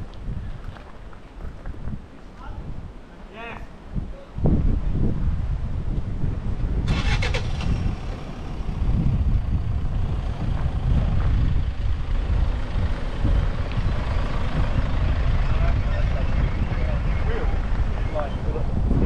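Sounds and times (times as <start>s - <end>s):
vehicle engine and tyres rumbling: 0.0s - 3.0s, 4.6s - 19.0s.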